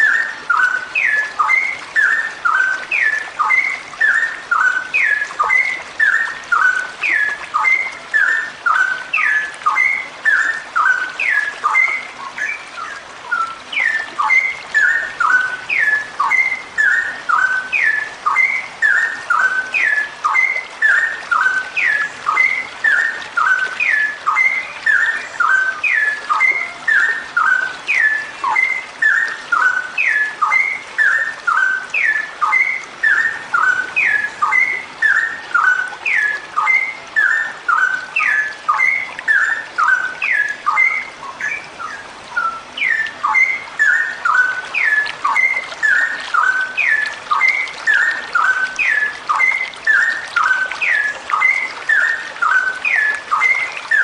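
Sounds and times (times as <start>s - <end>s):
bird whistling calls: 0.0s - 54.0s.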